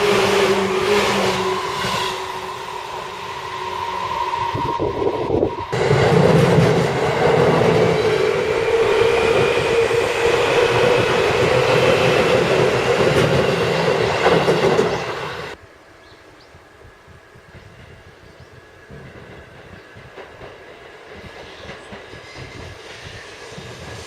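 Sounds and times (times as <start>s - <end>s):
electric train passing: 0.0s - 15.6s, 16.3s - 24.0s.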